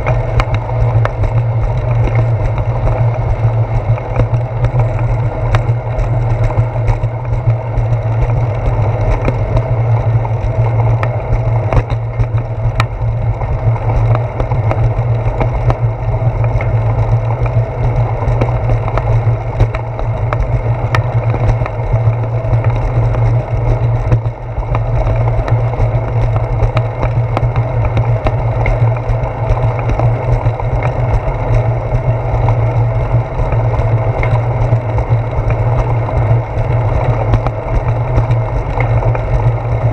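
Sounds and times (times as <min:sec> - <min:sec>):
bicycle tyres rumbling on concrete: 0:00.0 - 0:39.9
small clicks and knocks: 0:00.0 - 0:39.9.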